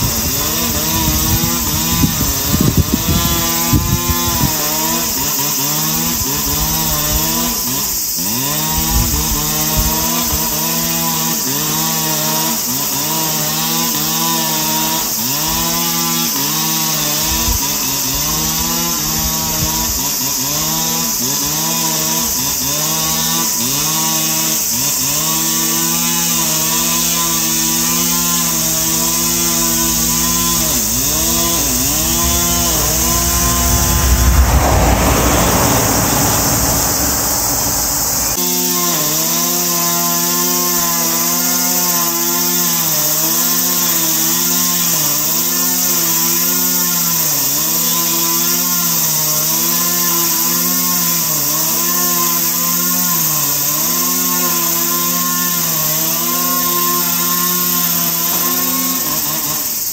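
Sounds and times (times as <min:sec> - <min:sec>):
brush cutter cutting grass: 0:00.0 - 0:59.9.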